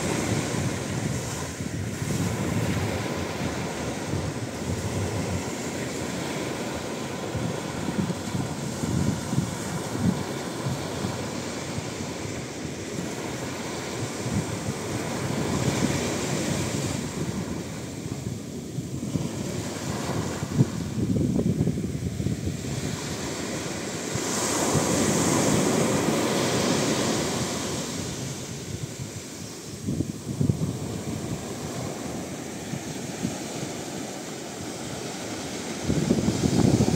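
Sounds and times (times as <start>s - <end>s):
sea waves breaking on beach: 0.0s - 36.9s
wind on microphone: 0.0s - 36.9s.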